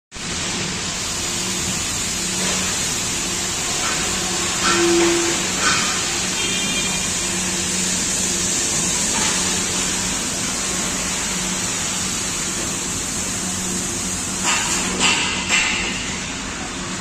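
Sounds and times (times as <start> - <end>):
rushing machinery noise: 0.1 - 17.0.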